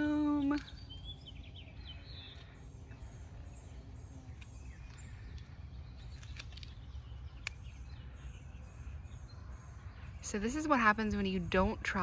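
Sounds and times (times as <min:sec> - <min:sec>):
faint bird chirps: 0:00.0 - 0:11.7.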